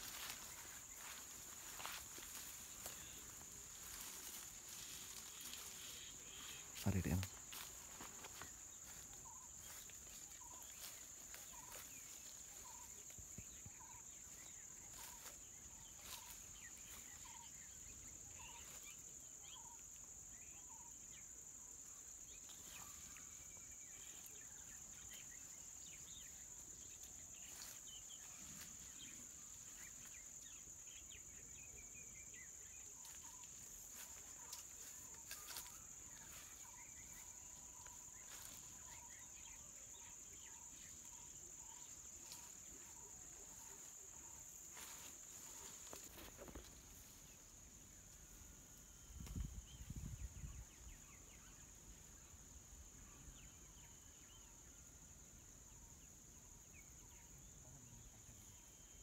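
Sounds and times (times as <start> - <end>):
crickets humming: 0.0 - 59.0
faint chirps: 0.0 - 59.0.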